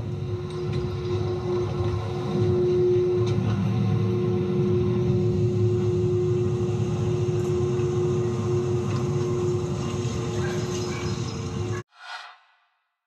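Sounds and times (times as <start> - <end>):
low mechanical rumble: 0.0 - 11.8.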